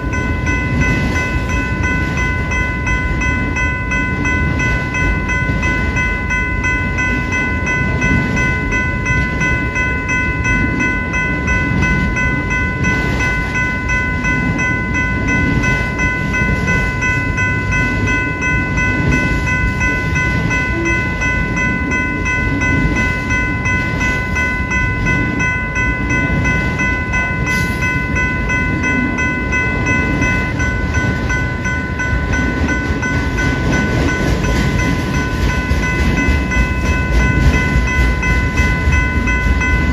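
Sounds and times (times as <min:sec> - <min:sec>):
crossing bell ringing: 0:00.0 - 0:39.9
freight train rumbling: 0:00.0 - 0:39.9.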